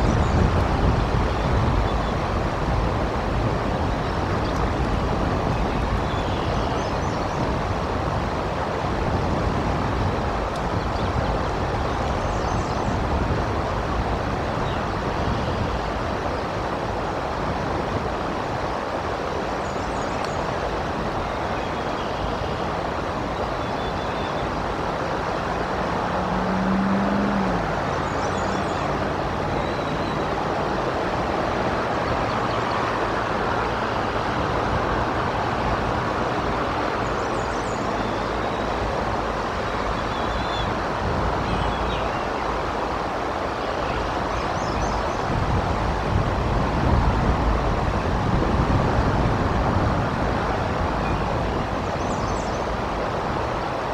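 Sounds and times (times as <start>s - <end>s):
wind and rain: 0.0s - 53.9s.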